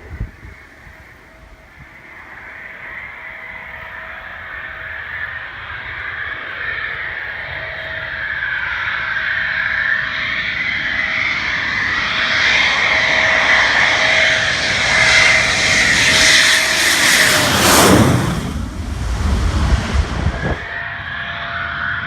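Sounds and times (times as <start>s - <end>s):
jet engine whine: 0.0s - 22.0s.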